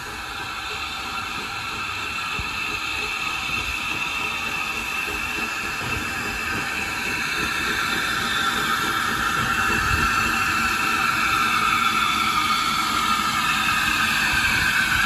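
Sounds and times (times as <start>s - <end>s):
locomotive low rumble: 0.0s - 15.0s
steam locomotive hiss and whine: 0.0s - 15.0s.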